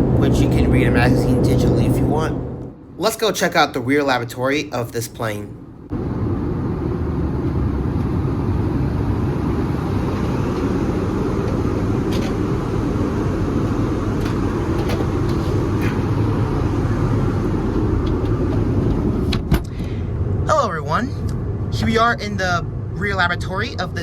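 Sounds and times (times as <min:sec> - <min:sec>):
airplane cabin engine rush: 0:00.0 - 0:24.0.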